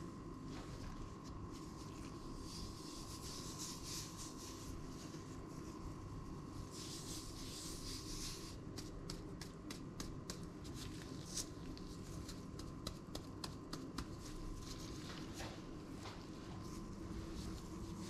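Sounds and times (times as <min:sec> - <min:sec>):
faint hum: 0:00.0 - 0:18.0
soft rubbing rustle: 0:00.3 - 0:09.0, 0:10.4 - 0:18.0.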